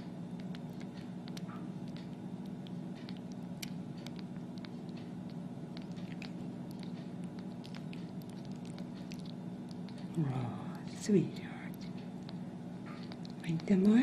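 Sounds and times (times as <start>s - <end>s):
kitten suckling: 0.0s - 14.0s
steady low hum: 0.0s - 14.0s.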